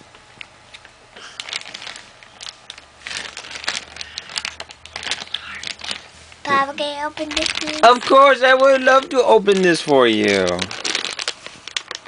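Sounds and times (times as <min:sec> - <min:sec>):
plastic packaging crinkling: 0:01.2 - 0:12.0.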